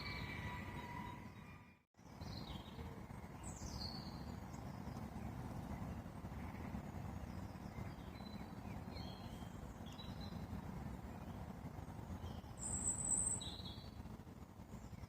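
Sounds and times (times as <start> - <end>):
birds chirping: 0.0 - 15.0
low rushing background noise: 0.0 - 15.0.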